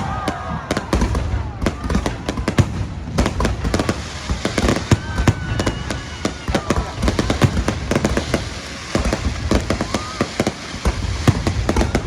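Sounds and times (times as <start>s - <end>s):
fireworks banging and crackling: 0.0s - 12.0s.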